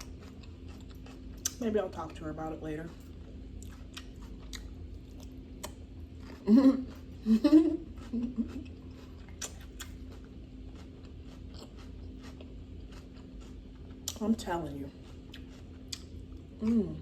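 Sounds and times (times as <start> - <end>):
person chewing with mouth clicks: 0.0 - 1.6, 2.8 - 7.2, 7.8 - 14.2, 15.0 - 17.0
faint steady hum: 0.0 - 17.0.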